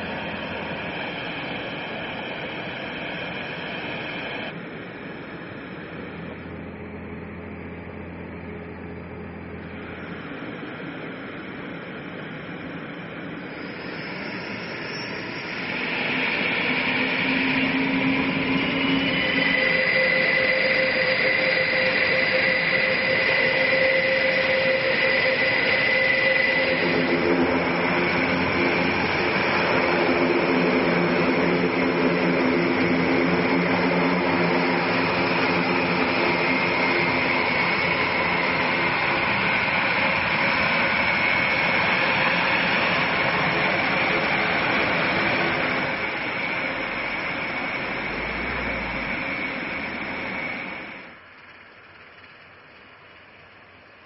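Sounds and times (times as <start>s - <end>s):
lower engine tones: 0.0s - 54.0s
turboprop engines droning: 0.0s - 54.0s.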